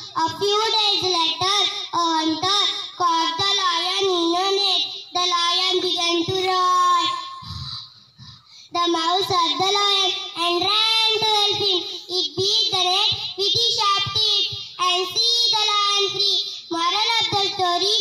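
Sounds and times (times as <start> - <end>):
girl singing: 0.0 - 18.0.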